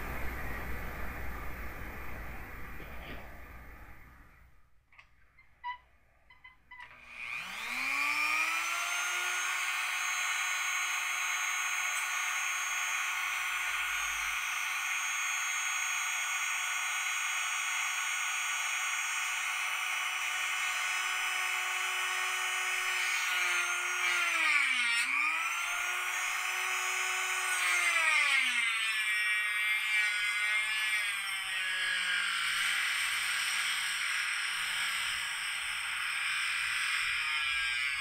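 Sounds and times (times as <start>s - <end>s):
rotary tool cutting plastic: 5.0s - 38.0s.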